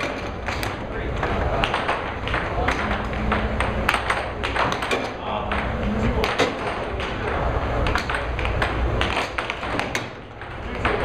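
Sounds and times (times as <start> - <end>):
air hockey puck clacking: 0.0 - 11.0
blower humming: 0.0 - 11.0.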